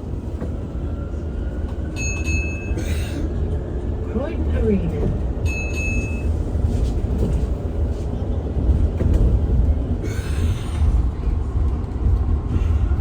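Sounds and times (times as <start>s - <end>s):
bus cabin road rumble: 0.0s - 13.0s.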